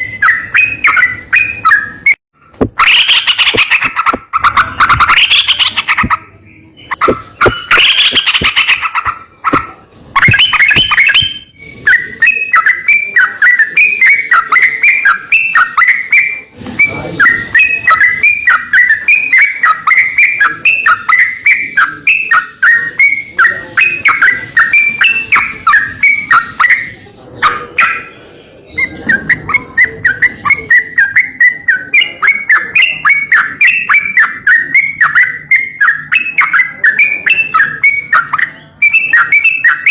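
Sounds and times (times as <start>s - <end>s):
harsh bird calls: 0.0s - 39.9s
songbird chirping: 0.0s - 39.9s.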